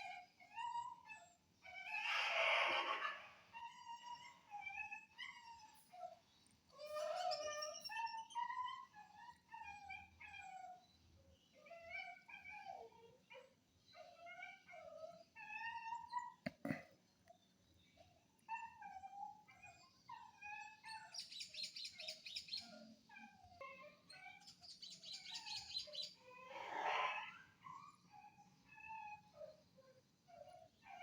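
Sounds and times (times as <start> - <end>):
puppies whimpering and whining: 0.0 - 16.4, 18.0 - 31.0.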